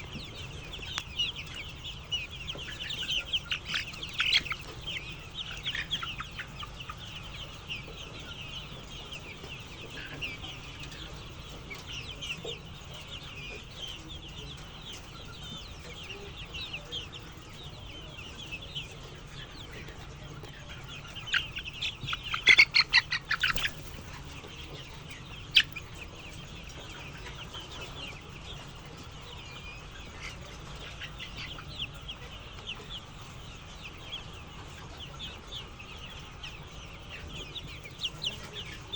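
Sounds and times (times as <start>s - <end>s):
chickens cheeping: 0.0s - 38.9s.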